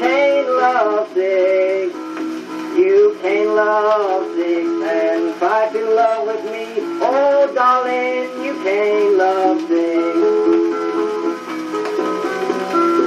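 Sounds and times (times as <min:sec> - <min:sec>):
old-time string-band music: 0:00.0 - 0:13.0.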